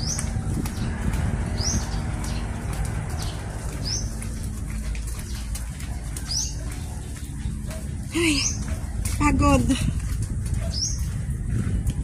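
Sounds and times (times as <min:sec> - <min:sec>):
bird chirping: 0:00.0 - 0:09.0, 0:10.5 - 0:11.4
steady low rumble: 0:00.0 - 0:12.0.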